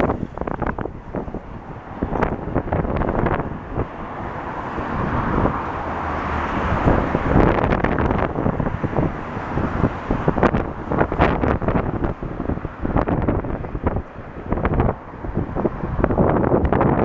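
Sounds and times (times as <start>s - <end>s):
rumble of passing vehicles: 0.0s - 17.0s
wind buffeting microphone: 0.0s - 17.0s.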